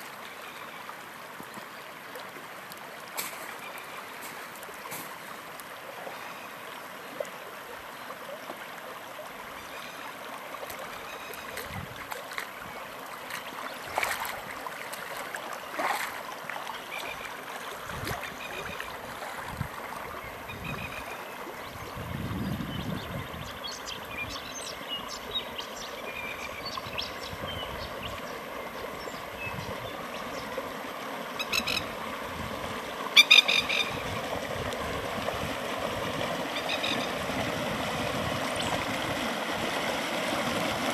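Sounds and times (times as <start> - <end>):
water rushing and gurgling: 0.0 - 40.9.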